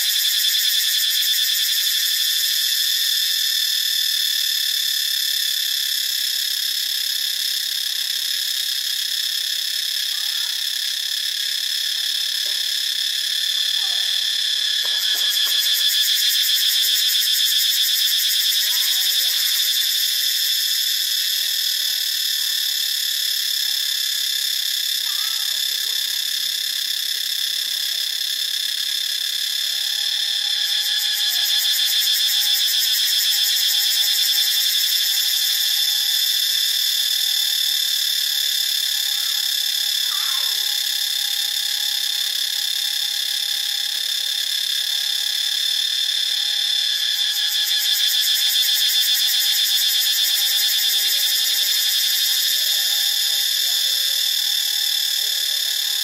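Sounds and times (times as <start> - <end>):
cicada buzzing: 0.0 - 56.0.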